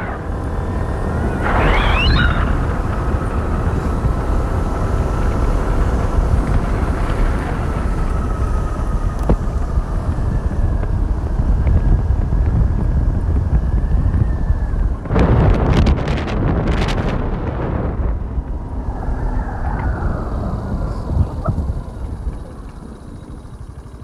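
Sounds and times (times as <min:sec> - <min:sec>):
faint motor whine: 0:00.0 - 0:24.0
wind rumbling on microphone: 0:00.0 - 0:24.0.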